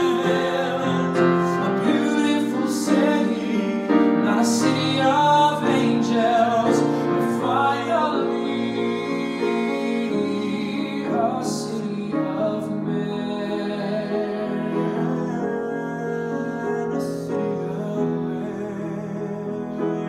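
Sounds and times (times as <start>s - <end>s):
man singing a slow ballad: 0.0s - 20.0s
piano accompaniment: 0.0s - 20.0s.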